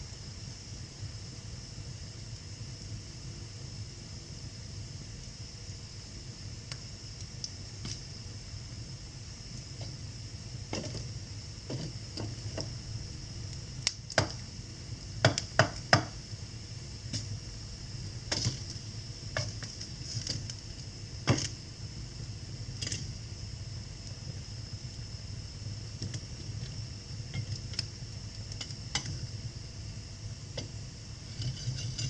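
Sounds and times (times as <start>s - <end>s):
wood fire crackling and popping: 4.5s - 32.0s.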